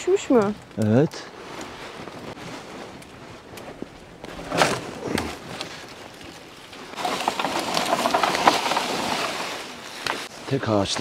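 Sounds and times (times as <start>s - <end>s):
branch cracking: 0.0s - 10.3s
twigs and dry leaves crackling: 0.0s - 11.0s.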